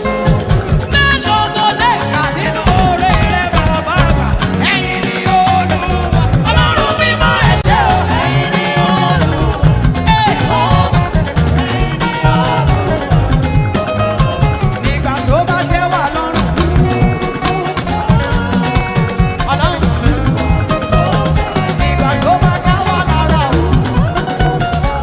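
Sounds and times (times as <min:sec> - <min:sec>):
live band dance music: 0:00.0 - 0:25.0.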